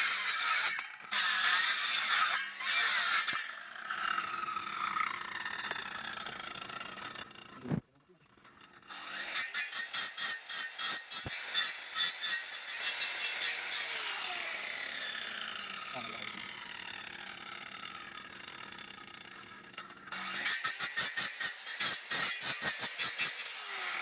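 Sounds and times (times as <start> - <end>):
saw cutting bamboo: 0.0 - 7.8, 8.8 - 24.0.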